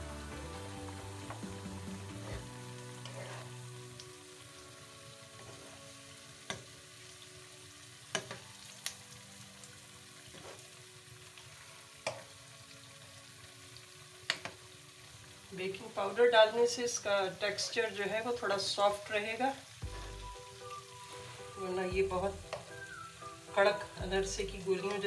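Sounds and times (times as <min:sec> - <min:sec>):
fritters sizzling in oil: 0:00.0 - 0:25.0.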